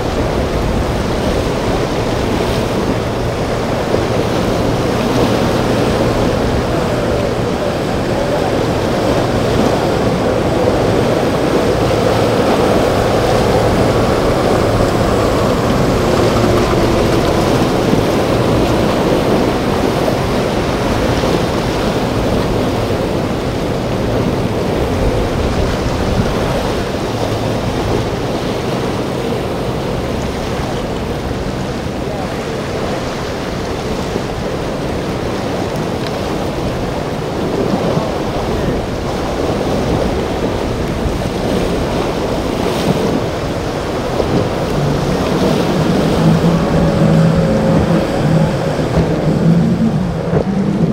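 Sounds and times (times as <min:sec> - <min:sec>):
breaking surf: 0:00.0 - 0:50.9
faint boat engine: 0:00.0 - 0:50.9
wind on microphone: 0:00.0 - 0:50.9.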